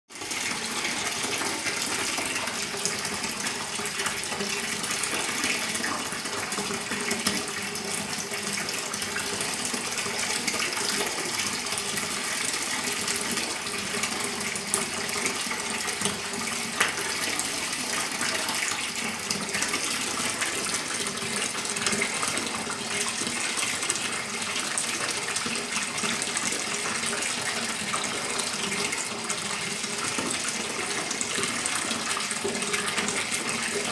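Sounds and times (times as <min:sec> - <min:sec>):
water pouring into bathtub: 0:00.1 - 0:33.9.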